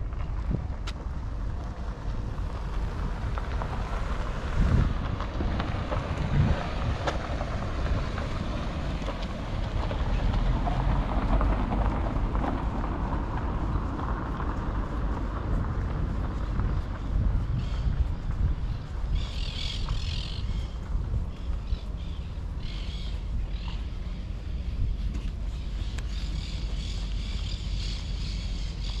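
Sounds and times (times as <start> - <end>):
steady low rumble: 0.0 - 29.0
wind buffeting microphone: 0.0 - 29.0.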